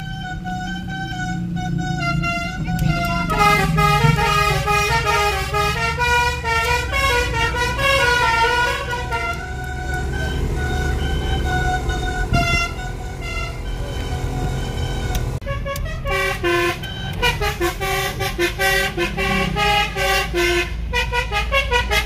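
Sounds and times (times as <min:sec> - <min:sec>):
engine and road rumble: 0:00.0 - 0:22.0
multi-trumpet horn melody: 0:00.0 - 0:22.0.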